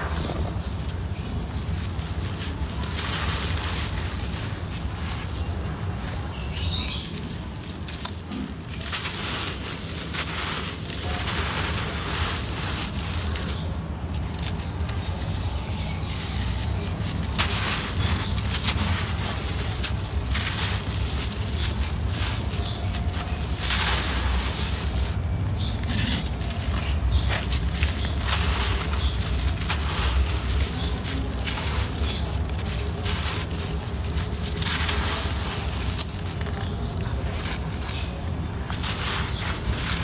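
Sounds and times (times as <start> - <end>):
grit pouring and rustling: 0.0 - 40.0
sand blocks crumbling: 0.0 - 40.0.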